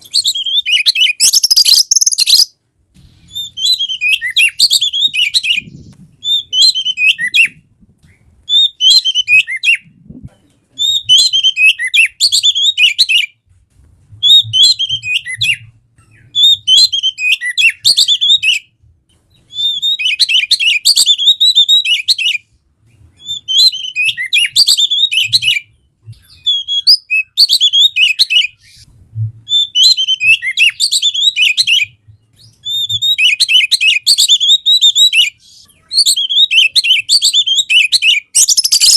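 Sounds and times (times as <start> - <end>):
bird singing whistled phrases: 0.0 - 2.5, 3.3 - 7.6, 8.5 - 9.8, 10.8 - 13.4, 14.2 - 18.7, 19.5 - 22.4, 23.2 - 28.8, 29.5 - 38.9.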